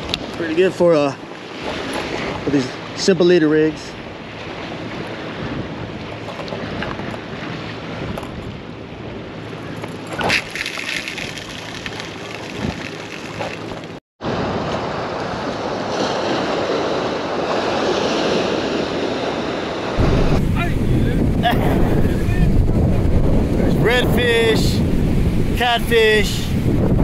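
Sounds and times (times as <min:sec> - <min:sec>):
surf washing against jetty: 0:00.0 - 0:27.0
wind buffeting microphone: 0:03.8 - 0:10.5, 0:11.3 - 0:27.0.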